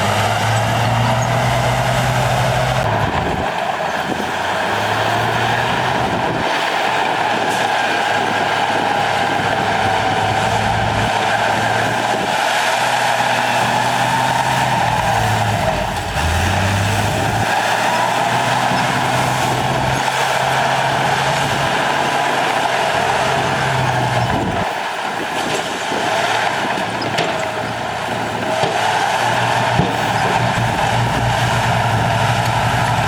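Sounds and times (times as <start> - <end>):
broad mechanical noise: 0.0 - 33.0
heavy diesel engine running: 0.0 - 33.0.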